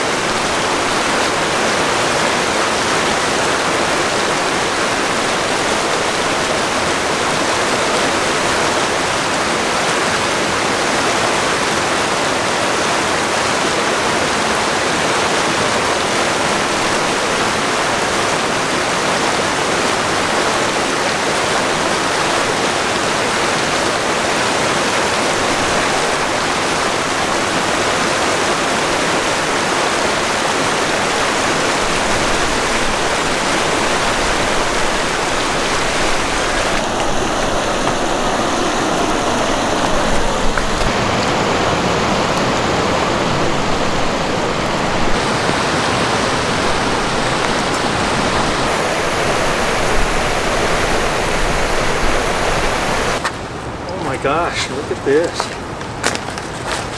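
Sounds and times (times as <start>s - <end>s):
creek water rushing over rocks: 0.0s - 56.9s.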